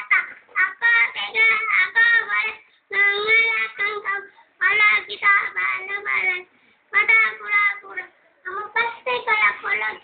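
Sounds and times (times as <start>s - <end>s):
boy singing into a microphone: 0.0s - 10.0s.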